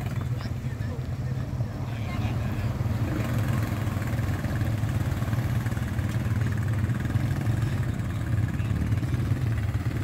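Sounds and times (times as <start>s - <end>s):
atv engine idling: 0.0s - 10.0s.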